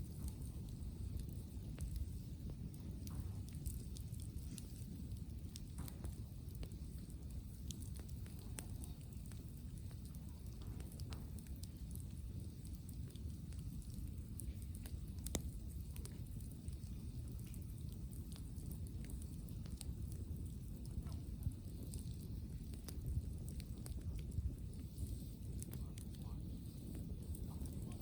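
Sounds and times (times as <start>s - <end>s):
campfire crackling and popping: 0.0s - 28.0s
low rumble of wind: 0.0s - 28.0s.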